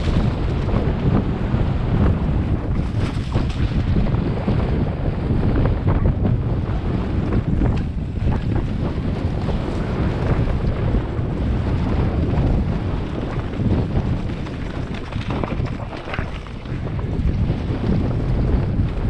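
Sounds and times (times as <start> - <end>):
bike rattling over dirt trail: 0.0 - 19.0
wind buffeting a microphone: 0.0 - 19.0.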